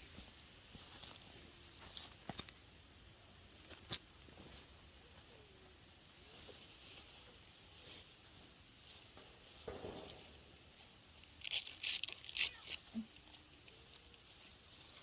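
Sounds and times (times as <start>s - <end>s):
rustling of plants: 0.0s - 2.8s, 3.5s - 15.0s.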